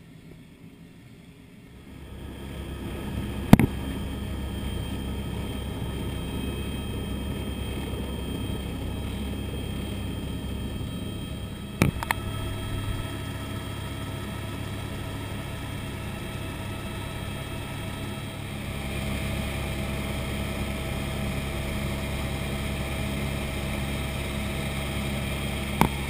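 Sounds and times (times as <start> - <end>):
helicopter engine and rotor: 0.0 - 26.0.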